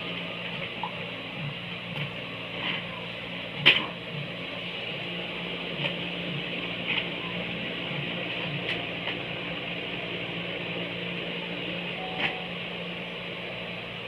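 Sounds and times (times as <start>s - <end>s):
machine motor hum: 0.0s - 14.0s.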